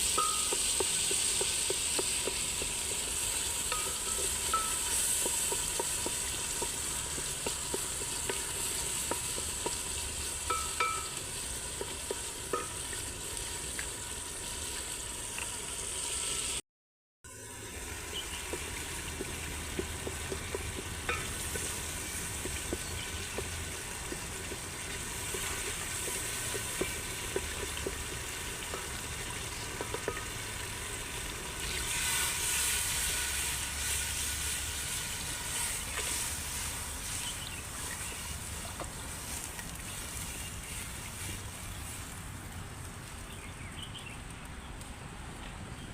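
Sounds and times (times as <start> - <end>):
food sizzling in a pan: 0.0 - 16.6, 17.3 - 43.5.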